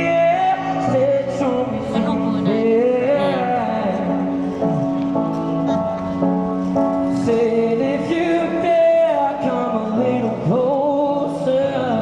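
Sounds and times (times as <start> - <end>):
person singing a melody: 0.0 - 4.9, 7.1 - 12.0.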